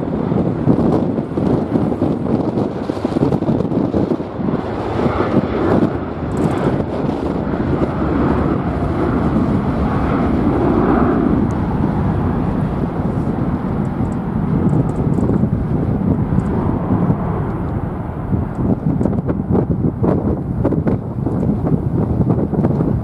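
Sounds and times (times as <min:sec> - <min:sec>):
jet engines running: 0:00.0 - 0:23.0
wind rumbling on microphone: 0:00.0 - 0:23.0.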